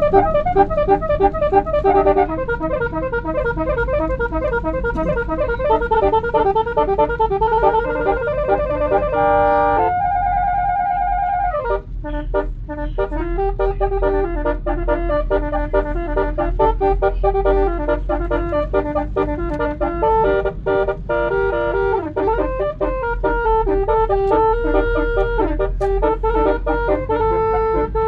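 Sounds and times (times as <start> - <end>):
musical air horn melody: 0.0 - 28.0.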